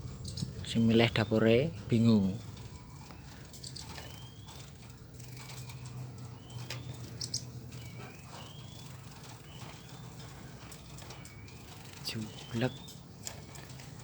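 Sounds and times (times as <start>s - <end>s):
small birds chirping: 0.0s - 14.0s
sharp ticks: 2.6s - 13.9s.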